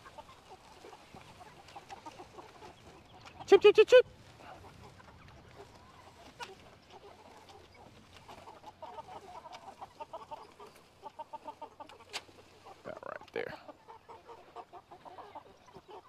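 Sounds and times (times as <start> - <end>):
chickens clucking softly: 0.0 - 16.0
chickens short calls: 0.0 - 16.0.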